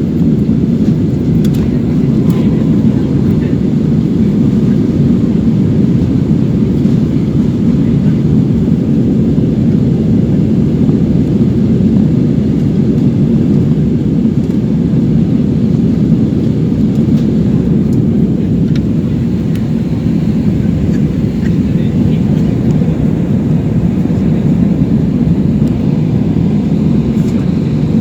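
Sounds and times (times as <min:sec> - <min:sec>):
airliner cabin roar: 0:00.0 - 0:28.0.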